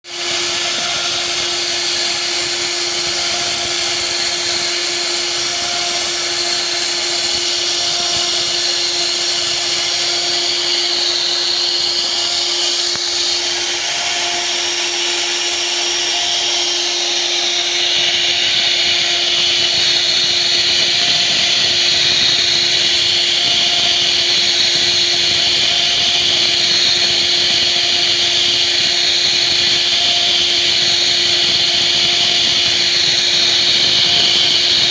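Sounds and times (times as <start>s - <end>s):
router spindle running: 0.0s - 34.9s
bit cutting wood hiss: 0.1s - 34.9s.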